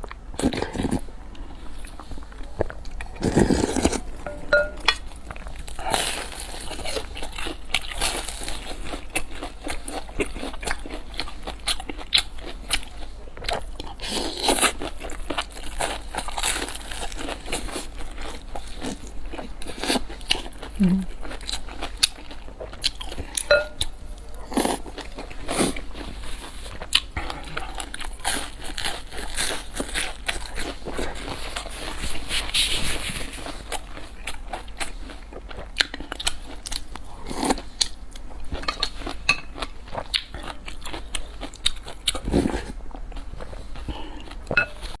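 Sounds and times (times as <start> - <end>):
person chewing and crunching food: 0.0 - 45.0.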